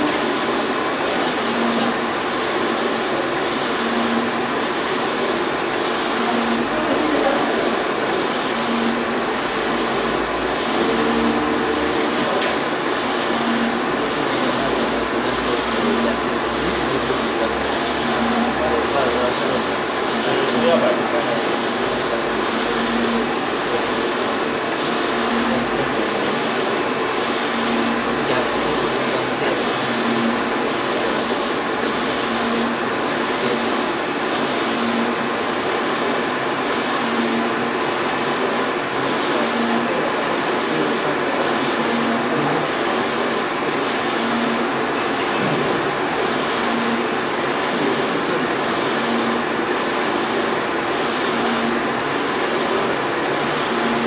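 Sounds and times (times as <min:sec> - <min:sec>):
printer mechanical whir: 0:00.0 - 0:54.0.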